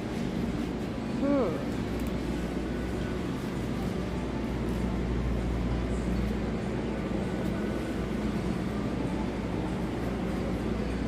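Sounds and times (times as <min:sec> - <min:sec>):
supermarket background rumble and hiss: 0:00.0 - 0:11.0.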